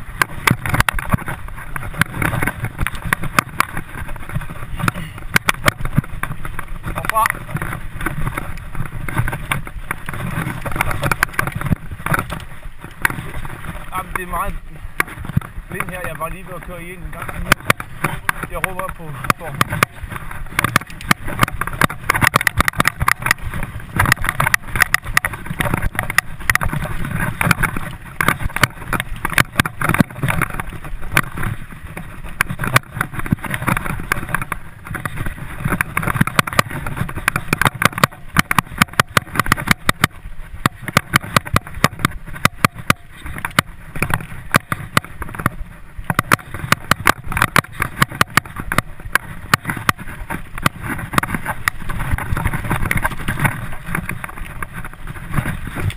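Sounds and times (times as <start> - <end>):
bike rattling over rough ground: 0.0 - 55.9
tyre and wind noise: 0.0 - 55.9.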